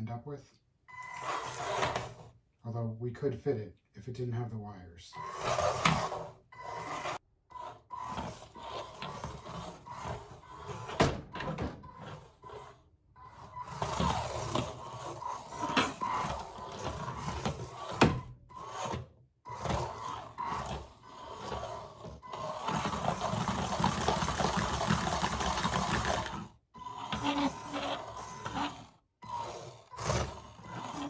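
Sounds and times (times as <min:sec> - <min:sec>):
robot drive motors whining: 0:01.0 - 0:02.3, 0:05.2 - 0:31.0.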